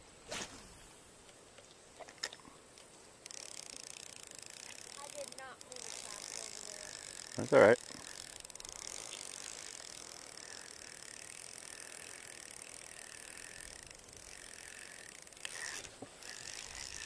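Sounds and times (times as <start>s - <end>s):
fishing reel ticking whir: 2.7s - 17.0s.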